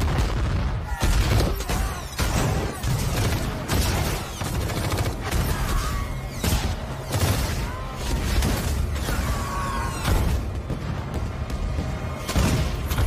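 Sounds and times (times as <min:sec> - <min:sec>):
explosions: 0:00.0 - 0:13.0
rapid gunfire: 0:00.0 - 0:13.0.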